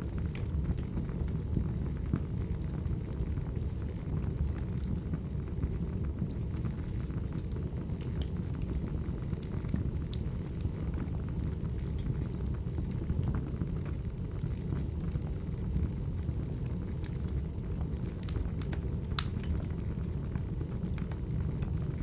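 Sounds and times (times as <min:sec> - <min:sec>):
firewood crackling and popping: 0:00.0 - 0:22.0
flames rumbling: 0:00.0 - 0:22.0.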